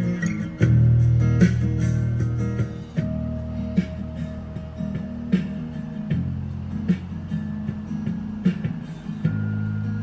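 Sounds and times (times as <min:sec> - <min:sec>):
strummed guitar chords: 0:00.0 - 0:10.0.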